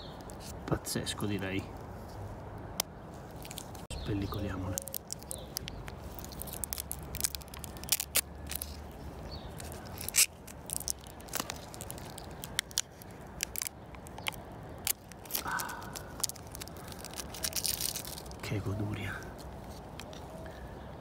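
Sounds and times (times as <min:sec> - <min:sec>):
plastic film peeling and crackling: 0:02.8 - 0:20.4.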